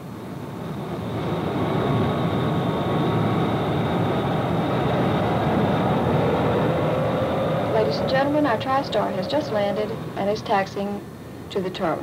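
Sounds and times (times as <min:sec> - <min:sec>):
jet engine cabin rush: 0:00.0 - 0:12.0
thin high whine: 0:00.0 - 0:12.0.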